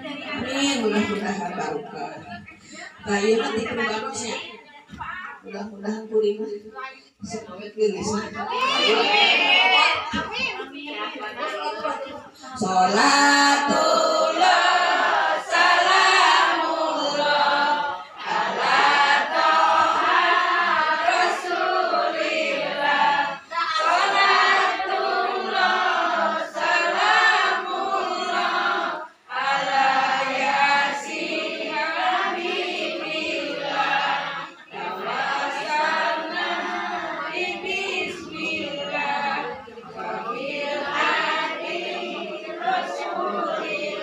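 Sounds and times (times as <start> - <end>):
women singing together: 0.0 - 5.4, 7.2 - 44.0.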